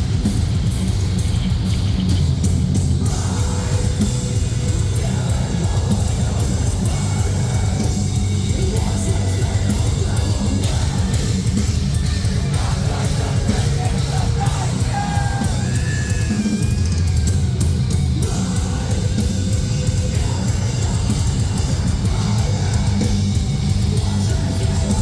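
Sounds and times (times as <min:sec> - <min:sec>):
live metal band playing: 0:00.0 - 0:25.0.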